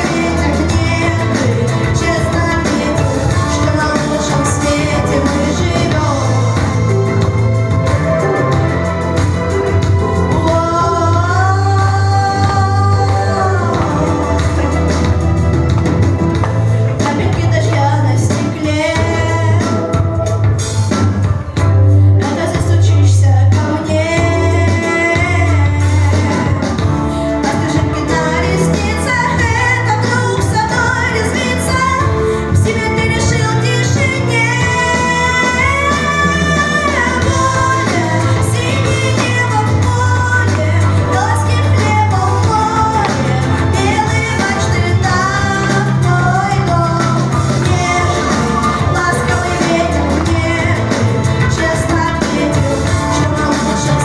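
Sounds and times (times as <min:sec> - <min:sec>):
person singing melody: 0:00.0 - 0:54.0
pop song backing track: 0:00.0 - 0:54.0.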